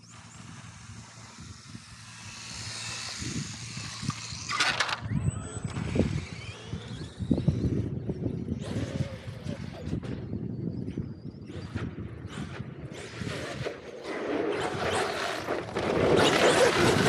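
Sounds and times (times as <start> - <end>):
electric toy car motor whining: 0.0 - 10.1, 12.3 - 17.0.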